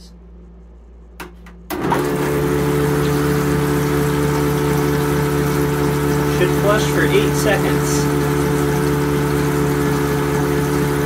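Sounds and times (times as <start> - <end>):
flush pump motor humming: 1.7 - 11.0
water rushing through toilet bowl: 1.7 - 11.0.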